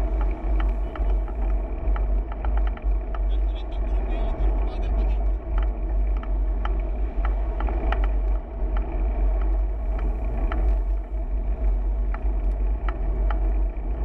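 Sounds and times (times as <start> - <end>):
bike clicks and rattles: 0.0 - 14.0.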